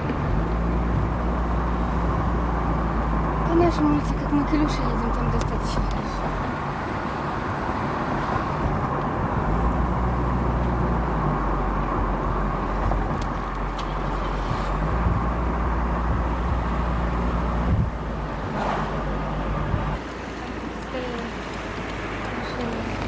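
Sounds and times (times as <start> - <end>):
car engine running: 0.0 - 23.0
tyres on the road: 0.0 - 23.0.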